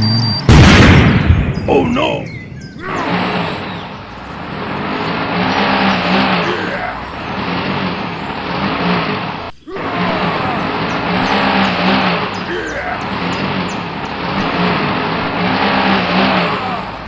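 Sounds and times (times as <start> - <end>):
vehicle engine running: 0.0 - 0.8, 3.6 - 17.0.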